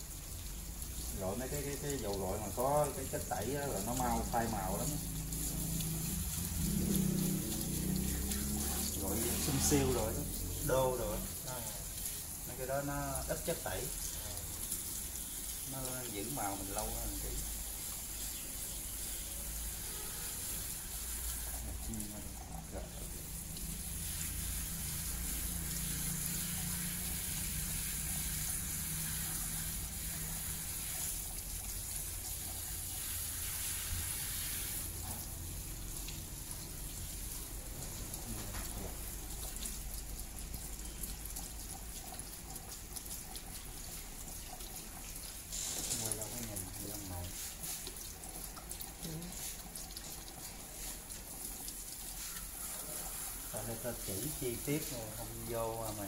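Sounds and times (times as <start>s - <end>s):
water spraying onto hair: 0.0s - 56.0s.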